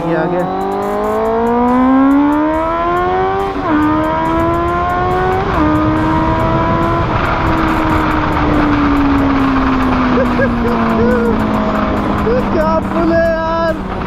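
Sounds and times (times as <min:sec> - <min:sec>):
motorcycle accelerating through gears: 0:00.0 - 0:14.0.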